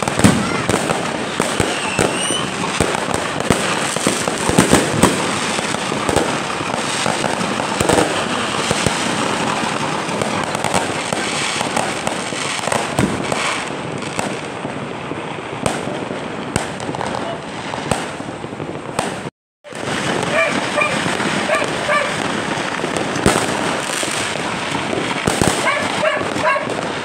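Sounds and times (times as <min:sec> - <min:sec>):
fireworks crackling and banging: 0:00.0 - 0:27.0.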